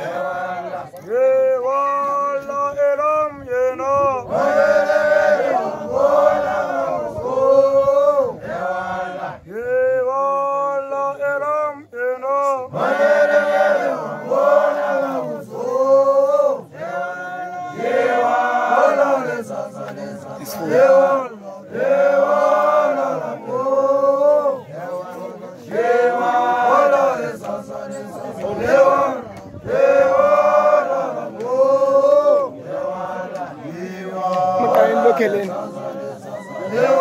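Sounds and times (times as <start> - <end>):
group of voices chanting: 0.0 - 1.5, 4.2 - 9.8, 12.7 - 37.0.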